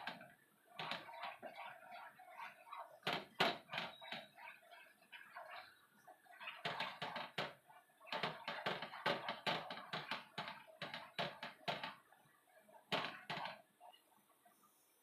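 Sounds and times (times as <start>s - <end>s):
wooden spatula scraping frying pan: 0.0s - 13.9s.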